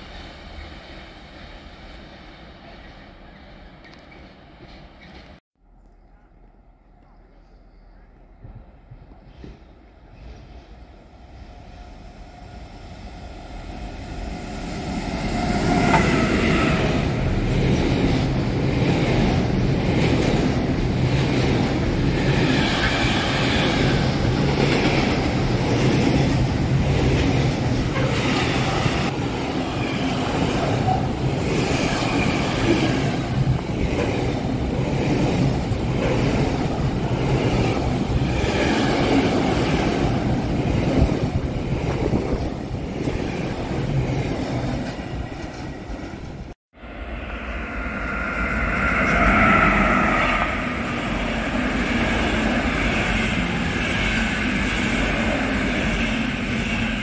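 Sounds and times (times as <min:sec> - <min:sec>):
train passing close by: 0:00.0 - 0:05.4, 0:08.0 - 0:57.0.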